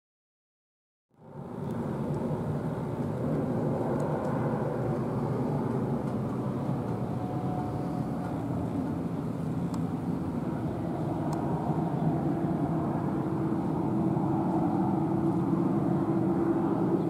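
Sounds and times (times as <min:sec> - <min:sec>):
jet plane passing overhead: 0:01.2 - 0:17.0.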